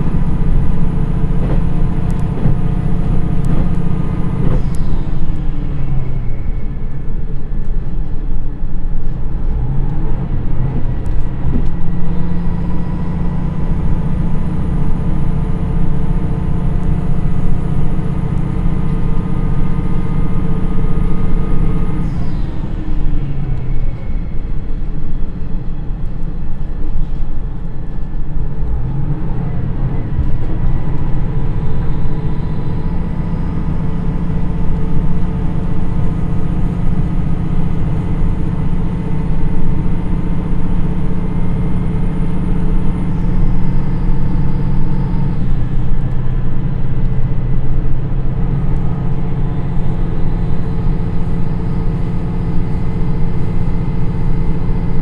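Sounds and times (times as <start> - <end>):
diesel railcar engine pulling: 0.0 - 55.0
train running noise: 0.0 - 55.0.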